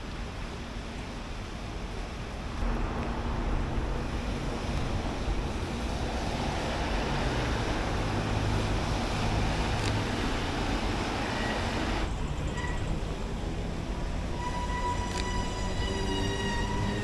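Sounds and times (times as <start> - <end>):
heavy rain on wet street: 0.0 - 17.0
wind rumble on microphone: 0.0 - 17.0.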